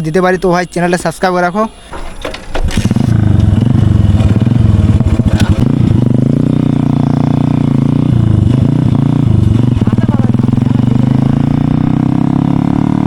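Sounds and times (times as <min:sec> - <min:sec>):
motorcycle engine revving: 0:02.5 - 0:13.0.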